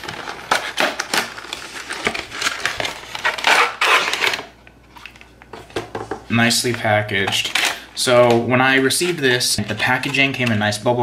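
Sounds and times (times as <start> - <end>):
plastic and cardboard crackling: 0.0 - 11.0.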